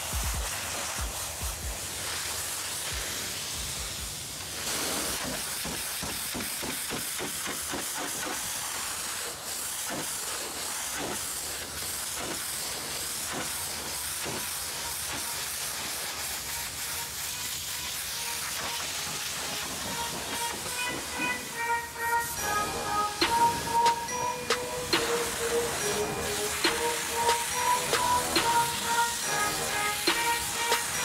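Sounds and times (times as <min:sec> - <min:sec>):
spray spattering on metal: 0:00.0 - 0:21.9, 0:22.5 - 0:31.0
pressure washer jet hissing: 0:00.0 - 0:31.0.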